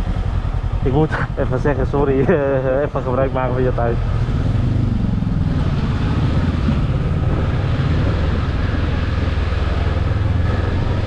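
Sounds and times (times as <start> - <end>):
motorbike engine humming: 0.0 - 11.0.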